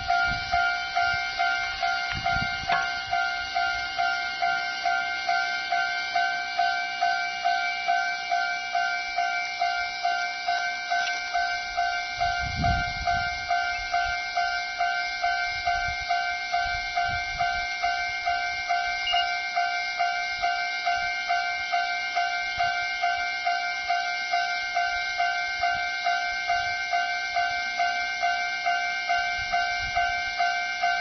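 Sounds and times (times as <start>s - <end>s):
level-crossing warning bell ringing: 0.0s - 31.0s.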